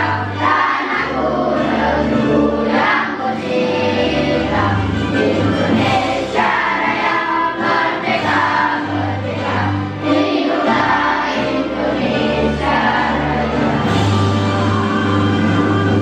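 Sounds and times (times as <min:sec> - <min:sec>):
group of voices singing: 0:00.0 - 0:14.8
musical accompaniment: 0:00.0 - 0:16.0.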